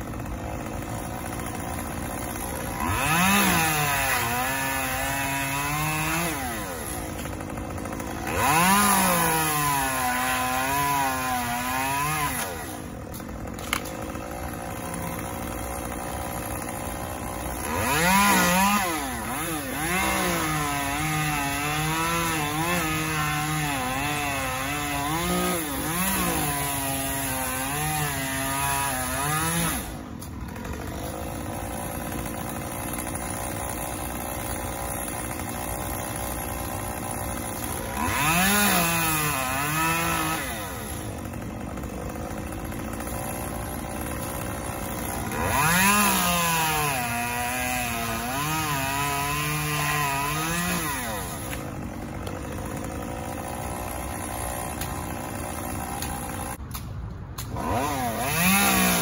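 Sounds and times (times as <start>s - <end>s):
chainsaw idling: 0.0s - 56.6s, 57.6s - 59.0s
chainsaw cutting wood: 0.0s - 59.0s.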